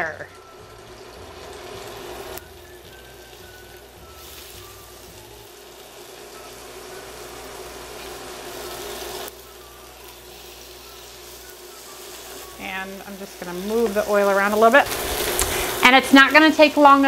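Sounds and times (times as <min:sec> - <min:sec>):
fish sizzling in hot oil: 0:00.0 - 0:17.0
low hum of cooktop: 0:00.0 - 0:17.0.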